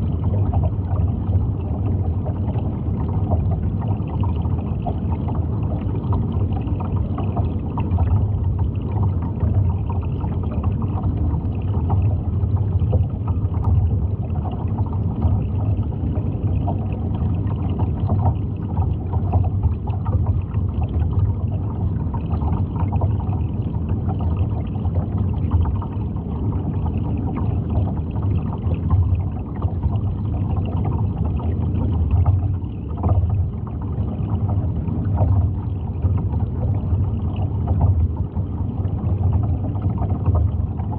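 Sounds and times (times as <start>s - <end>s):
low rumble of moving water: 0.0s - 40.9s
water gurgling: 0.0s - 40.9s.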